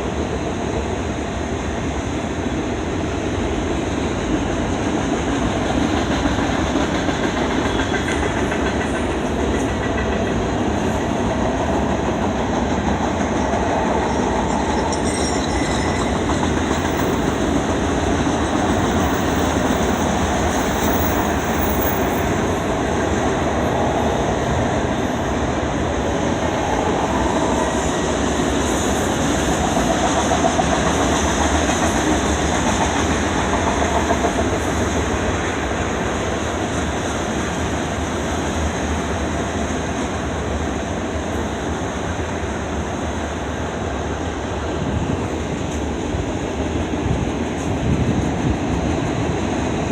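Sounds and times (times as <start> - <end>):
freight train cars rolling past: 0.0 - 49.9
steel wheels on rail: 0.0 - 49.9.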